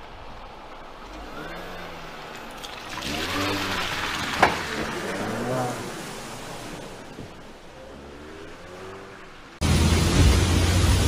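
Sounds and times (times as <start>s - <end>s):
car engine: 0.0s - 11.0s
water rushing from tyres: 0.0s - 11.0s.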